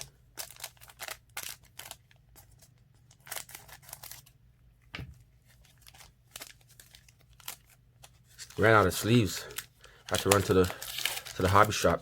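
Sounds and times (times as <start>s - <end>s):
plastic wrapper crinkling: 0.0s - 4.4s, 5.3s - 12.0s.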